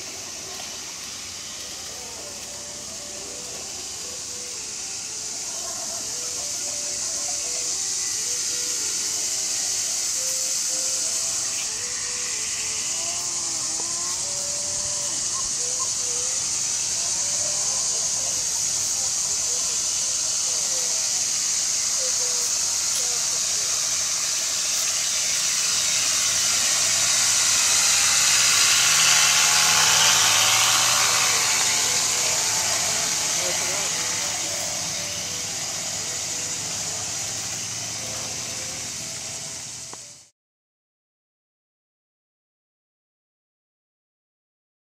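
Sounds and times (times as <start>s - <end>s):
short wavering squeals: 0.0s - 39.8s
model train running on track: 0.0s - 40.3s
steady high hiss: 0.0s - 40.3s.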